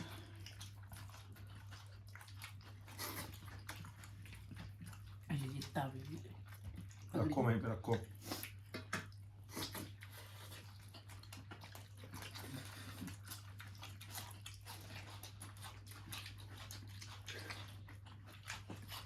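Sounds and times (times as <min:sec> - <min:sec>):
chewing and eating by hand: 0:00.0 - 0:19.0.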